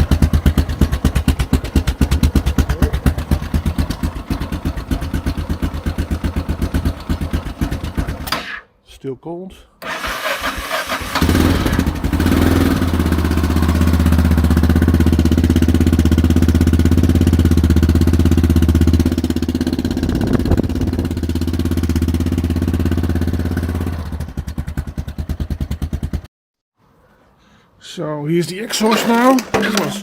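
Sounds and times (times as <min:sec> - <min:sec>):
single-cylinder engine running: 0:00.0 - 0:08.3, 0:09.8 - 0:26.2.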